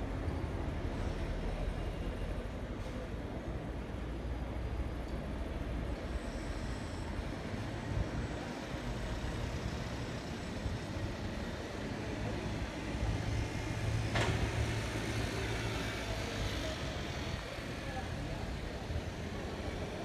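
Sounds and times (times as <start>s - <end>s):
distant city traffic: 0.0s - 20.0s.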